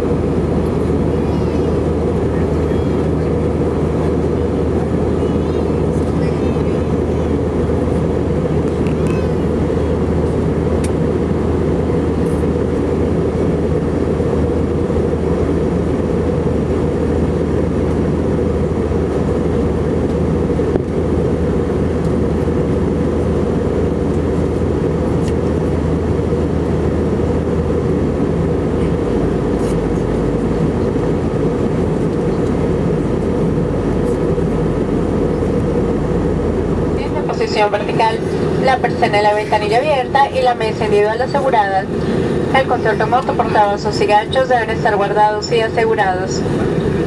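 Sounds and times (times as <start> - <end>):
airplane cabin drone: 0.0 - 47.0.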